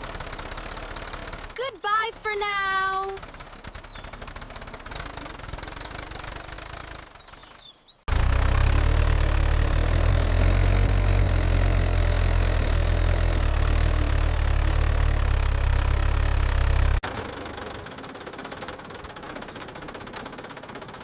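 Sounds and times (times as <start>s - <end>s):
engine running with low rumble: 0.0s - 21.0s.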